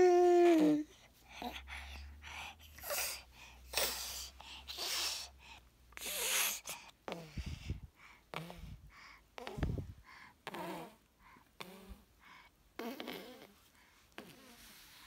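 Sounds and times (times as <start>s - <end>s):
baby huffing and snorting: 0.8s - 13.6s.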